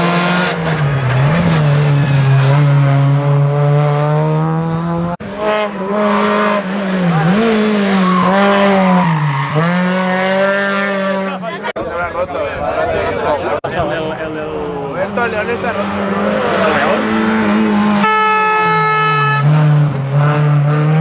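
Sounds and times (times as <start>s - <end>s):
rally car engines revving: 0.0s - 11.8s, 13.5s - 21.0s.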